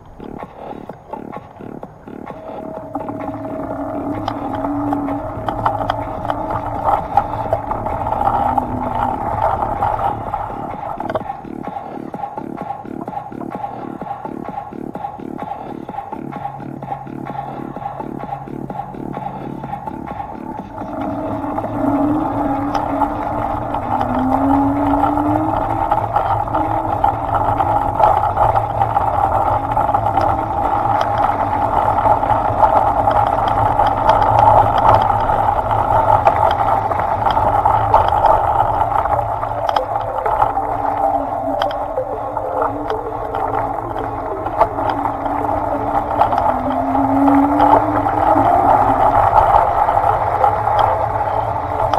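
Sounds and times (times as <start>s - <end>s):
small vehicle motor humming: 0.0s - 51.9s.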